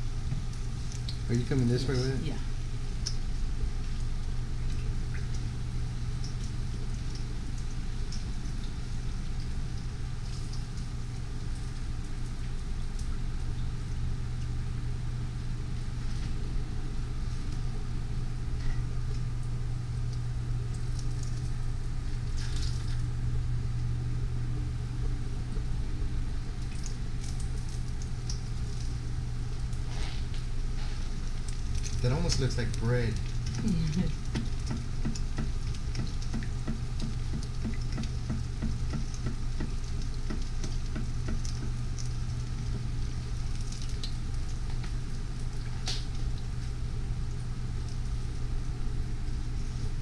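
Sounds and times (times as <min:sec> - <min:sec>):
low hum: 0:00.0 - 0:50.0
oil sizzling and crackling: 0:00.0 - 0:50.0.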